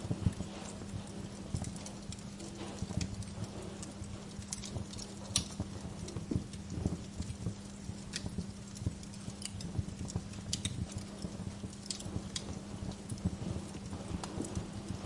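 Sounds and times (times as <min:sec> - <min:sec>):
fireplace fire crackling: 0:00.0 - 0:15.0
low steady hum: 0:00.0 - 0:15.0.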